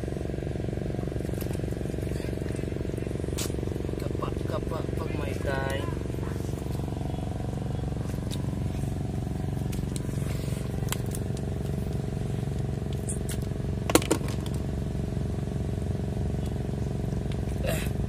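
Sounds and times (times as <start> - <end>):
engine drone: 0.0 - 18.0.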